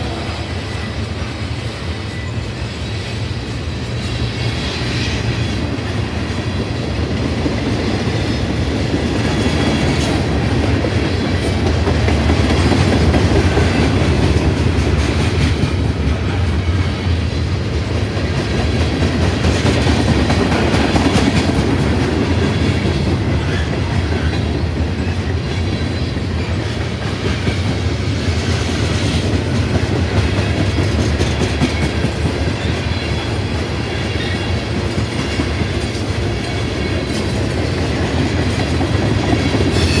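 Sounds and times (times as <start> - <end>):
freight train wheels on rails: 0.0 - 40.0.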